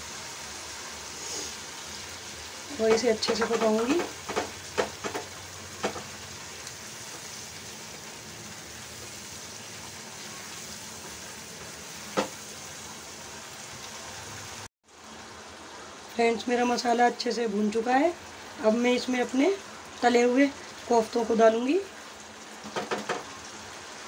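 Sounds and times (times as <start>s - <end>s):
spice paste sizzling in a pan: 0.0s - 24.0s.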